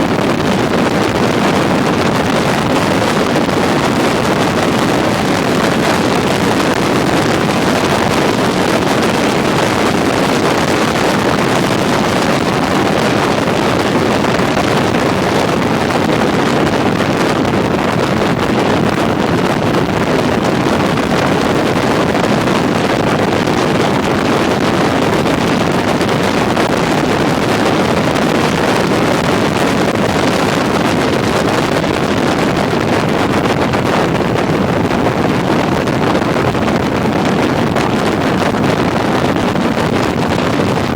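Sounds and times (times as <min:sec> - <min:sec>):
motorcycle engine and road noise: 0:00.0 - 0:40.9
wind on microphone: 0:00.0 - 0:40.9.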